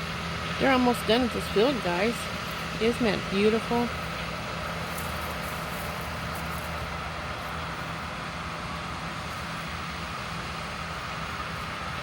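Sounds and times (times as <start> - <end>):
combine harvester engines humming: 0.0 - 12.0.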